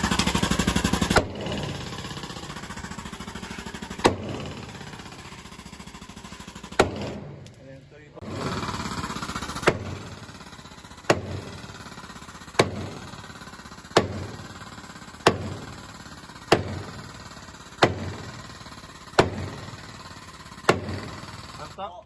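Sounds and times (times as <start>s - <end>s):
steady mechanical hum: 0.0s - 22.0s
sledgehammer striking steel: 0.1s - 7.5s, 9.4s - 21.5s.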